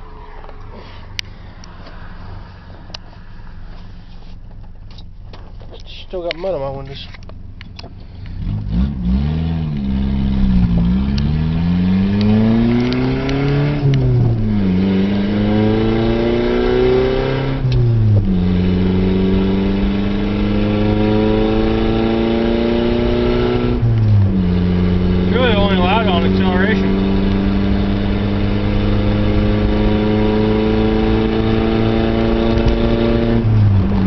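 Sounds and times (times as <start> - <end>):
car engine and exhaust: 0.0 - 34.0.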